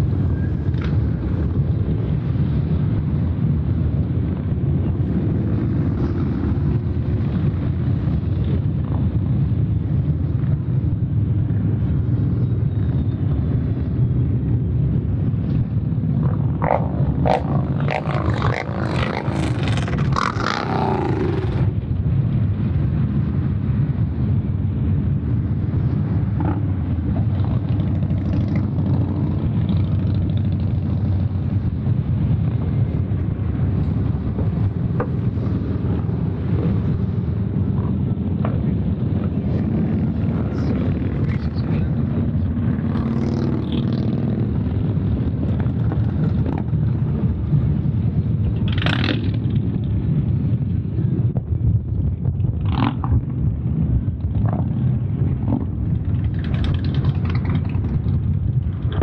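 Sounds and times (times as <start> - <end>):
motorcycles passing: 0.0 - 59.0.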